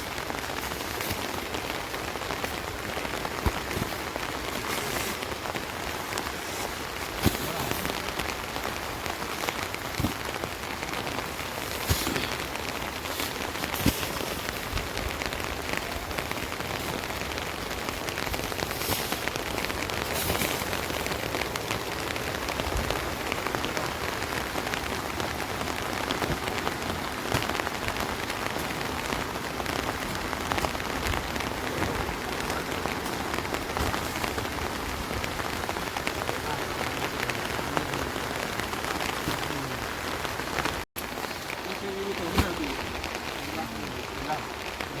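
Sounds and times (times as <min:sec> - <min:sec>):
water rushing: 0:00.0 - 0:45.0.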